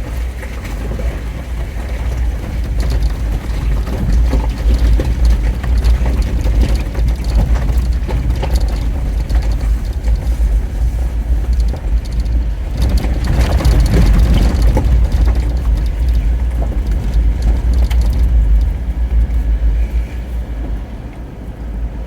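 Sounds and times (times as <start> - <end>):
rattling and clicking: 0.0 - 20.8
engine and road rumble: 0.0 - 22.0.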